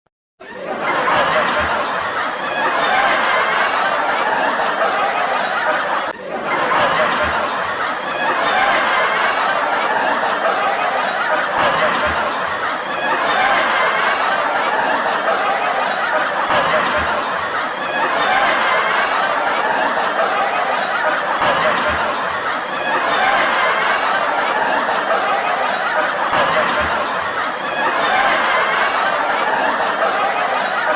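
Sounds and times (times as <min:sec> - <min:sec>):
crowd laughing: 0:00.4 - 0:30.9.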